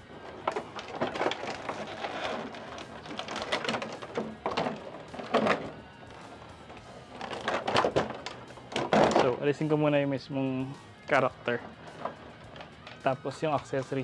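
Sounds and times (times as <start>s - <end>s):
plastic trays crinkling and clacking: 0.1s - 9.9s, 11.1s - 14.0s.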